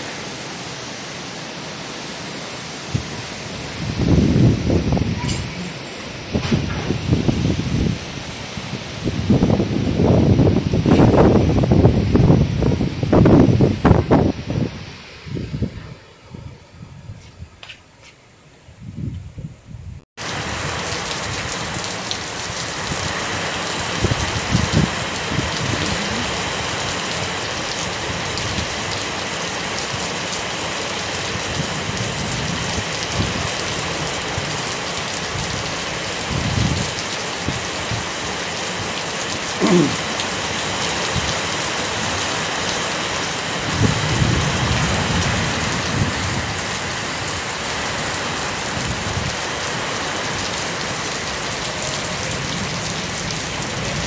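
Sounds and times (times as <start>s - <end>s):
heavy rain falling: 0.0s - 16.0s, 20.2s - 54.0s.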